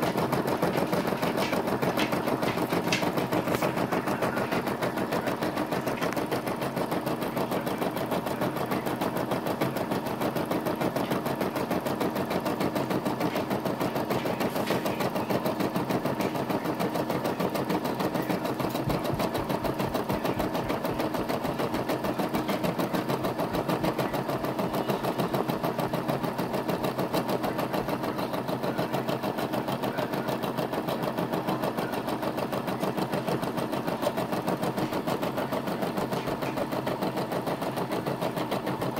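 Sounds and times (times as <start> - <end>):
embroidery machine running: 0.0 - 38.9
needle striking rapidly: 0.0 - 38.9.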